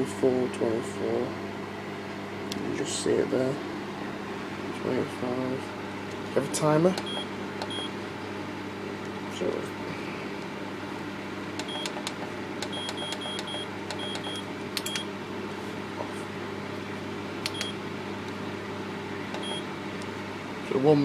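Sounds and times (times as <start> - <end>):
fan heater humming: 0.0 - 21.0.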